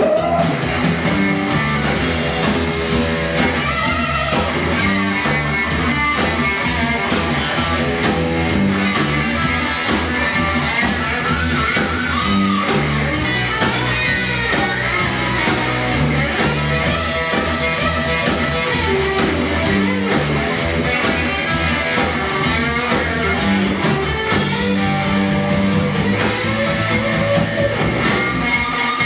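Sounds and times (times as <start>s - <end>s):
drum strokes: 0.0s - 28.7s
electric bass: 0.0s - 29.0s
electric guitar: 0.0s - 29.0s.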